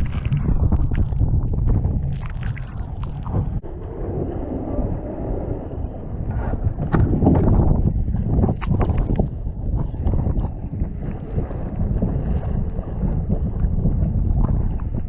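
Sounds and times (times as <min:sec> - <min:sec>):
strong wind buffeting microphone: 0:00.0 - 0:15.0
water splashing against hull: 0:00.0 - 0:15.0.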